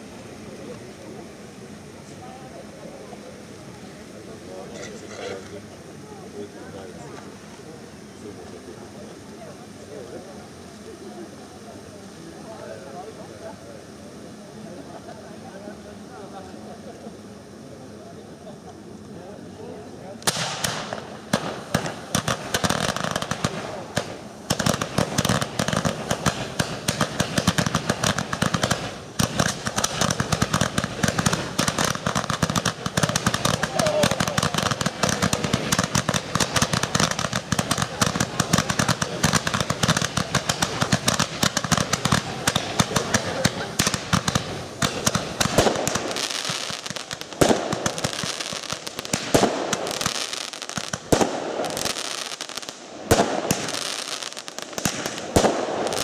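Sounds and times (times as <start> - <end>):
fireworks crackling and bangs: 0.0 - 56.0.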